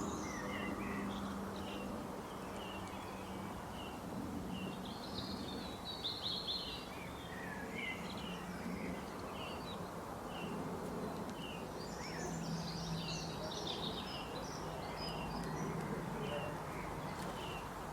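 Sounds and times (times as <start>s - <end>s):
outdoor background noise: 0.0s - 17.9s
small birds chirping: 0.0s - 17.9s.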